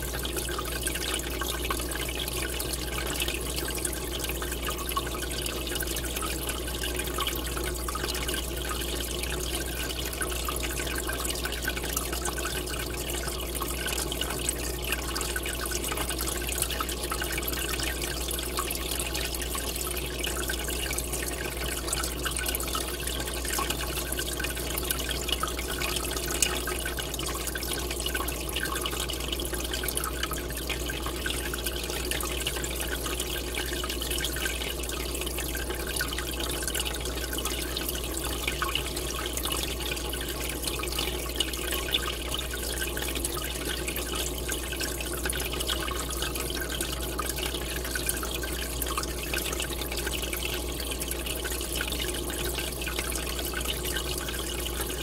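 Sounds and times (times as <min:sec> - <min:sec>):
water splashing into aquarium: 0:00.0 - 0:55.0.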